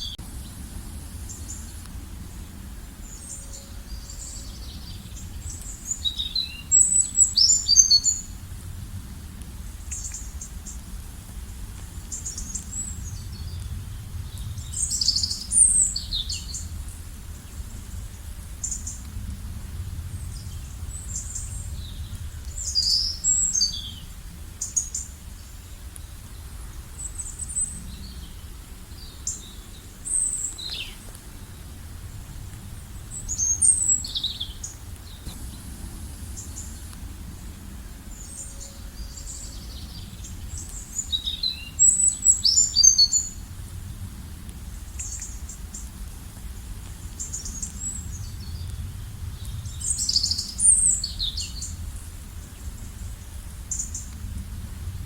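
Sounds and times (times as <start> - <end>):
small birds chirping: 0.0 - 8.4, 9.7 - 19.1, 19.9 - 31.8, 32.6 - 43.4, 46.6 - 54.2
low ambient rumble: 0.0 - 55.0.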